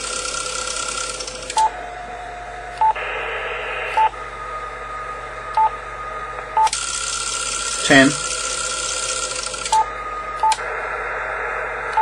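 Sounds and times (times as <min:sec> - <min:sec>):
radio band noise hiss: 0:00.9 - 0:12.0.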